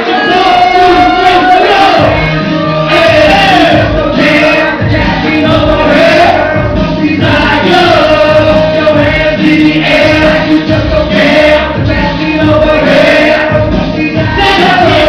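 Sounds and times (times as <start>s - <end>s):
loud music: 0.0s - 15.0s
voices singing held notes: 0.0s - 15.0s.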